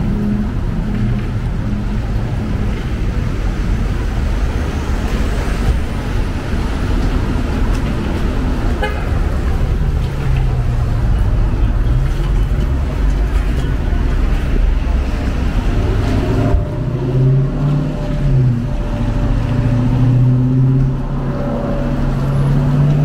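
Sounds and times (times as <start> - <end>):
cars passing on wet road: 0.0 - 23.0
vehicle engine hum: 0.0 - 23.0.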